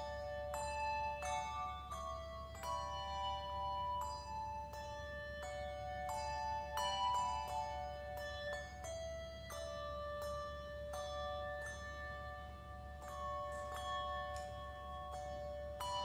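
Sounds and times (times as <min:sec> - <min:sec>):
handbells ringing: 0:00.0 - 0:16.0.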